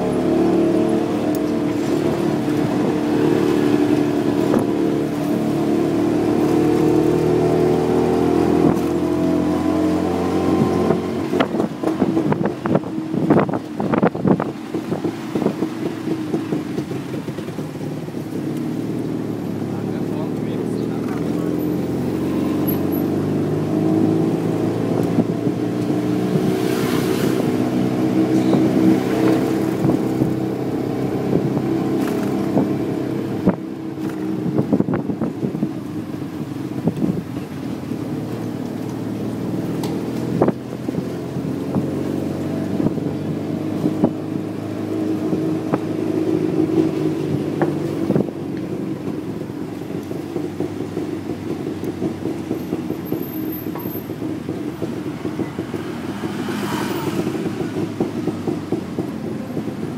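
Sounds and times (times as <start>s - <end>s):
auto rickshaw engine running: 0.0s - 59.9s.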